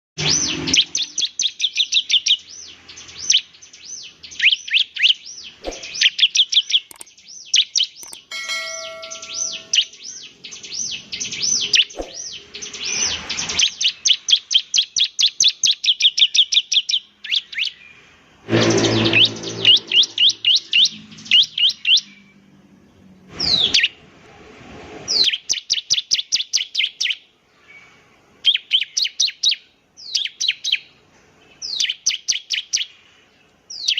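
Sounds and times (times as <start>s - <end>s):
bird chirping song: 0.2s - 24.0s, 25.1s - 33.9s.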